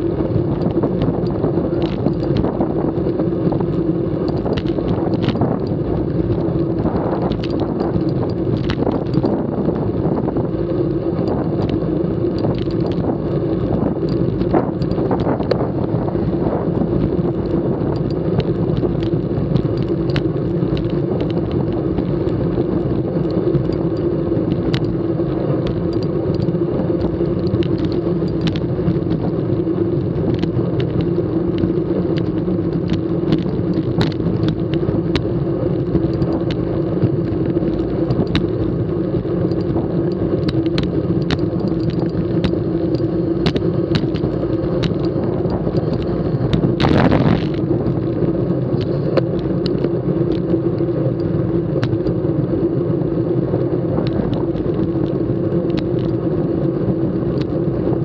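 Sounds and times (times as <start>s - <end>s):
bike clicks and knocks: 0.0s - 50.6s
bicycle tyre and wind rumble: 0.0s - 58.0s
wind rush: 0.0s - 58.0s.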